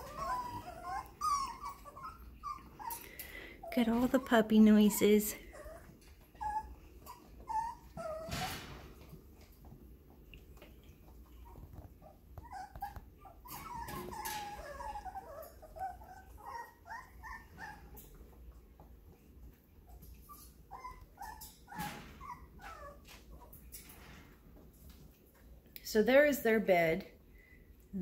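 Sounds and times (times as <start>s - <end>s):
puppies whimpering and yipping: 0.0s - 9.8s, 11.0s - 23.7s.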